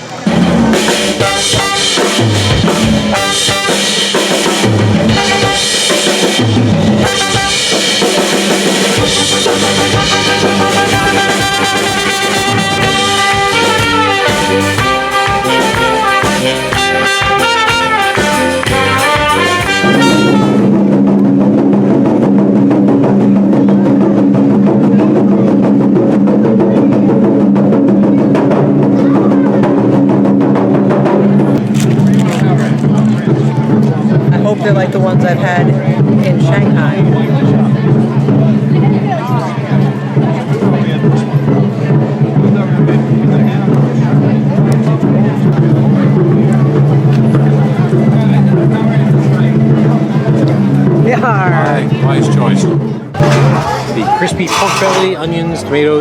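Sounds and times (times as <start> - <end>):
music with drum kit: 0.0 - 55.3.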